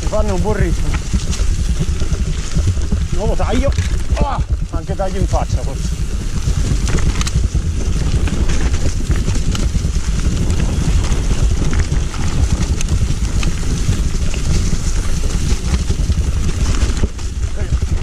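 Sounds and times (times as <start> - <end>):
bike clicks and rattles: 0.0 - 18.0
tyres rolling over dirt and leaves: 0.0 - 18.0
wind rumble on microphone: 0.0 - 18.0.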